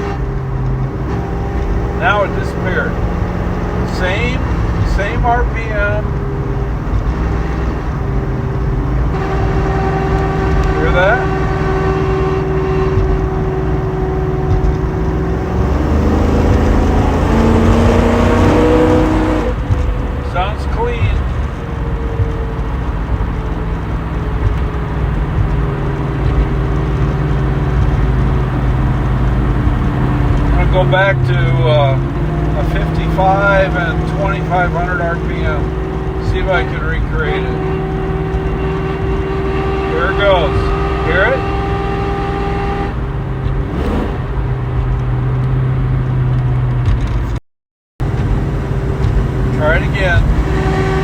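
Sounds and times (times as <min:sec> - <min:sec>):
low engine hum: 0:00.0 - 0:47.4, 0:48.0 - 0:51.0
low howl from car underside: 0:00.0 - 0:47.4
road noise: 0:00.0 - 0:47.4, 0:48.0 - 0:51.0.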